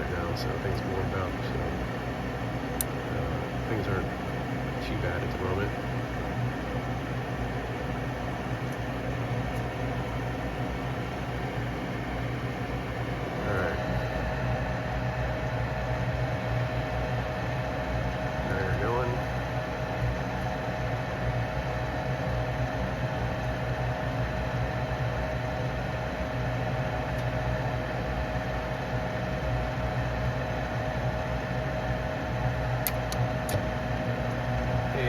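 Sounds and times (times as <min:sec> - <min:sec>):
furnace fan motor humming: 0:00.0 - 0:35.0.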